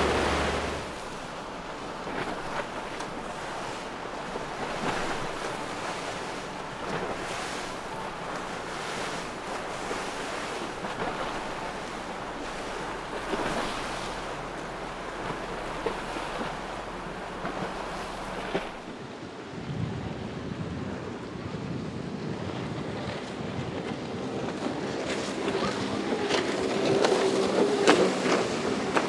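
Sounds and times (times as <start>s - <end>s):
waves breaking: 0.0s - 20.1s, 21.6s - 29.0s
rushing wind: 0.0s - 29.0s
wind buffeting microphone: 0.0s - 29.0s.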